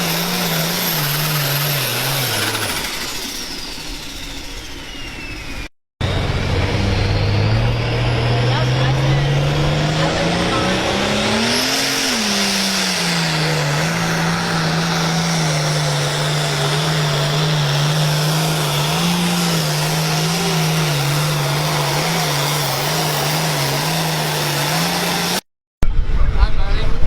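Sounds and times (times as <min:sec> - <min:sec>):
tractor engine running hard: 0:00.0 - 0:25.4.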